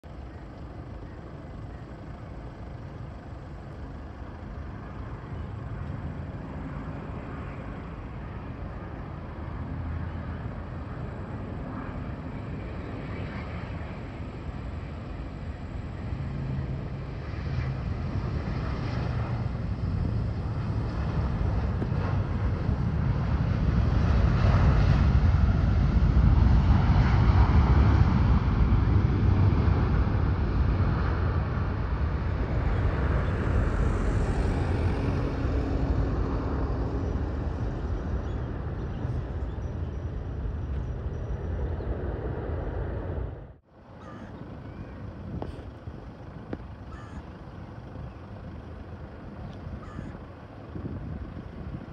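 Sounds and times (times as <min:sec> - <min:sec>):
jet engine rumble: 0:00.0 - 0:51.9.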